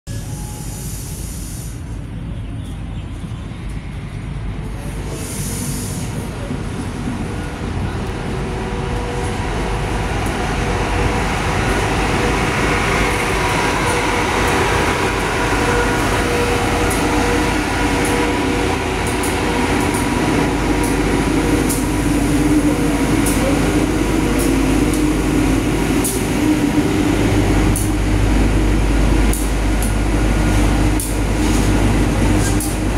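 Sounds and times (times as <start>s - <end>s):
train engine running: 3.1s - 32.9s.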